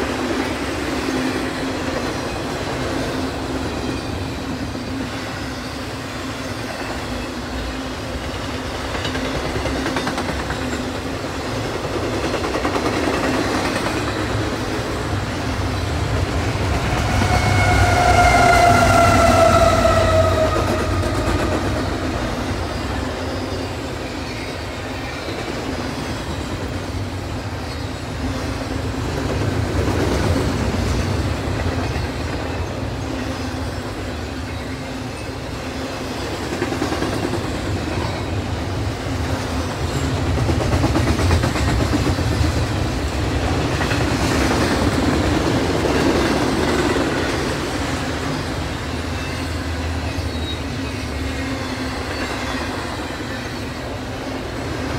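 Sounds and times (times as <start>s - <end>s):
train wheels clattering on rails: 0.0s - 54.9s.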